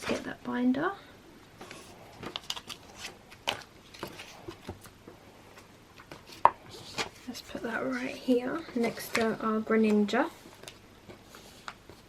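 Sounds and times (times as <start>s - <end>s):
cards rustling: 1.6s - 12.0s.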